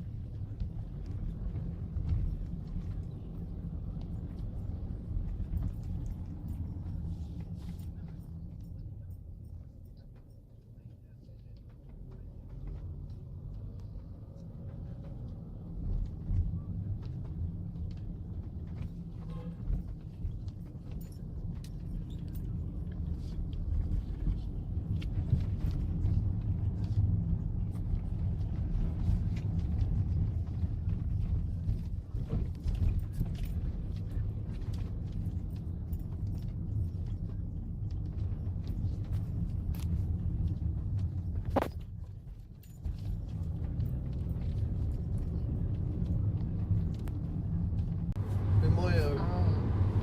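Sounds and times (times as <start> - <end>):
traffic rumble: 0.0 - 50.0.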